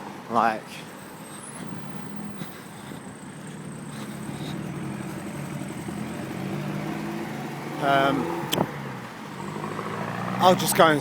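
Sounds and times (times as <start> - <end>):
road traffic noise: 0.0 - 11.0
motor vehicle engine running: 0.9 - 11.0.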